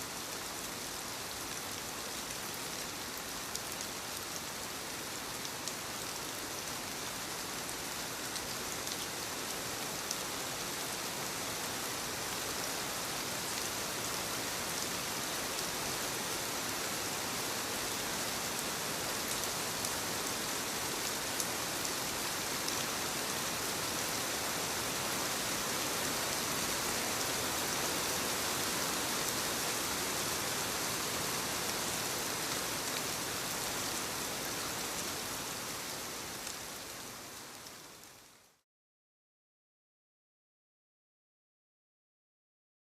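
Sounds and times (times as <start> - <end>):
steady rain: 0.0 - 38.6.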